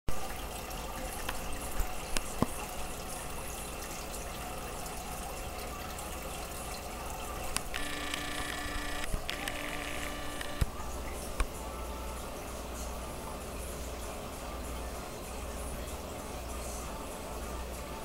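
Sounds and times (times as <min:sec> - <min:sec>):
aquarium water bubbling: 0:00.1 - 0:18.0.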